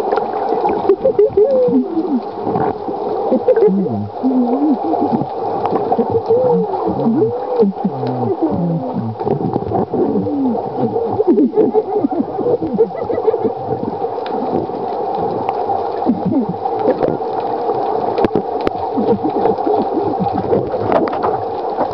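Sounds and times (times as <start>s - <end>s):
steady underwater hum: 0.0s - 21.9s.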